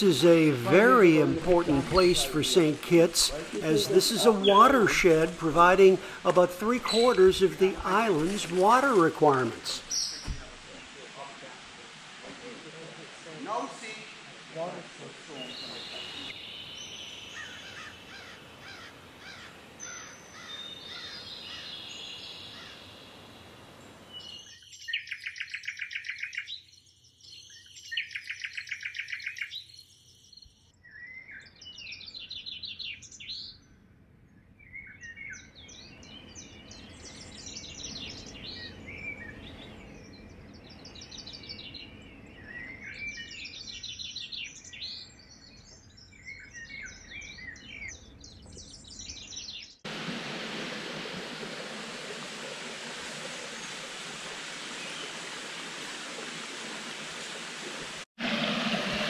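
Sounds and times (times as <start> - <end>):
wild birds singing: 0.0 - 49.9, 51.6 - 56.0.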